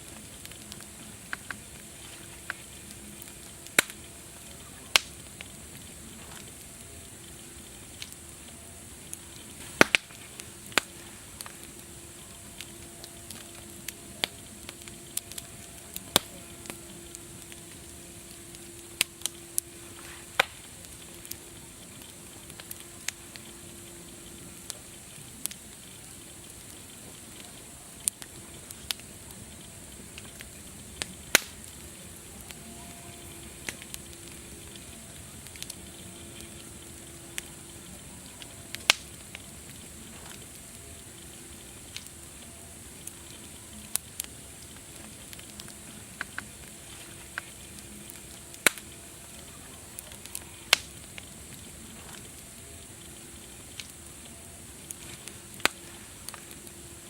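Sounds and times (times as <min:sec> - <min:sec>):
steady hiss: 0:00.0 - 0:57.0
wood fire crackling and popping: 0:00.0 - 0:57.0.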